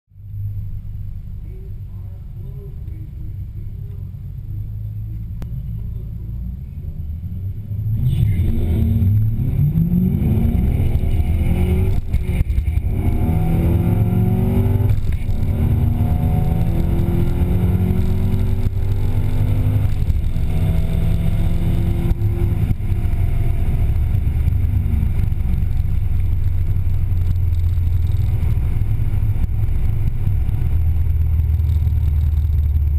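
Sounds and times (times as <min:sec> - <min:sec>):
car engine rumbling: 0:00.1 - 0:32.9
car engine accelerating through gears: 0:04.8 - 0:32.9.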